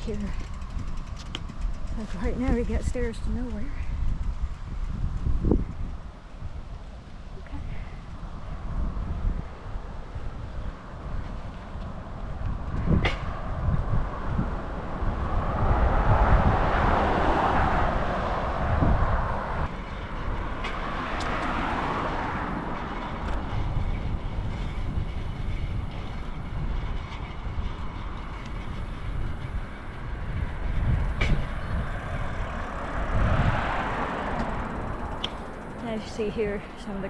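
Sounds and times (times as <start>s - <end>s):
vehicles passing: 0.0s - 37.0s
wind rumble on microphone: 0.0s - 37.0s.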